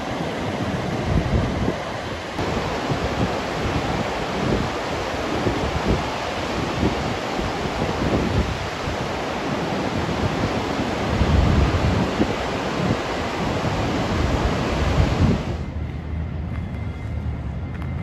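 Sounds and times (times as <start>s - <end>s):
ocean surf washing in: 0.0s - 15.7s
wind buffeting microphone: 0.0s - 18.0s.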